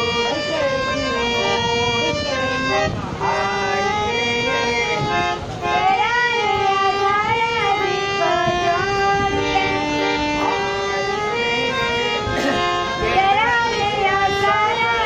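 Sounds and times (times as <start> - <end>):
harmonium sustained notes: 0.0 - 15.0
high voice singing: 0.0 - 15.0.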